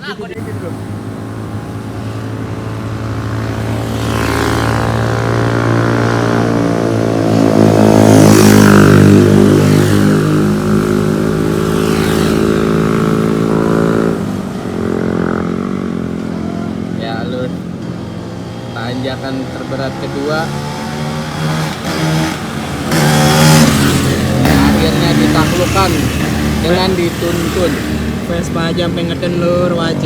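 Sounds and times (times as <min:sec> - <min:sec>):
motorbike engine labouring: 0:00.0 - 0:30.0.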